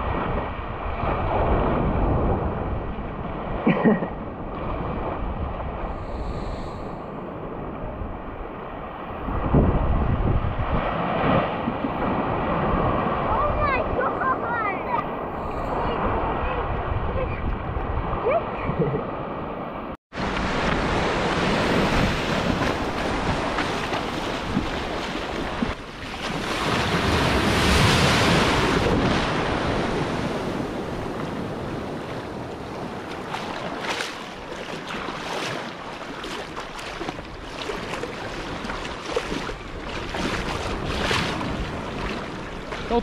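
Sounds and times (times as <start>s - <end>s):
wind buffeting microphone: 0.0s - 3.6s, 4.2s - 43.0s
sea water washing and splashing: 4.4s - 17.4s, 20.1s - 43.0s.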